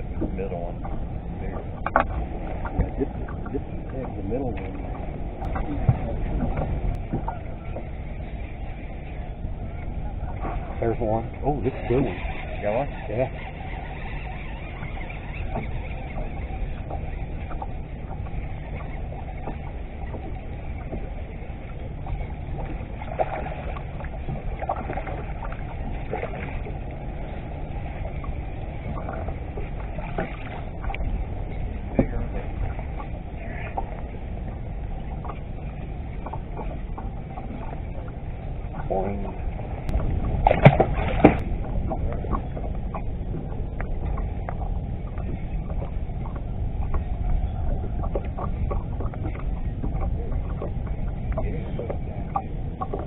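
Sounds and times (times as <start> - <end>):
water lapping at a hull: 0.0 - 53.0
wind and water rumble: 0.0 - 53.0.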